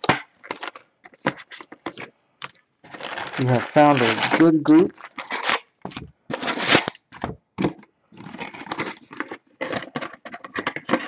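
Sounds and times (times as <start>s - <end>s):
card packs rustling and scraping: 0.0s - 11.0s.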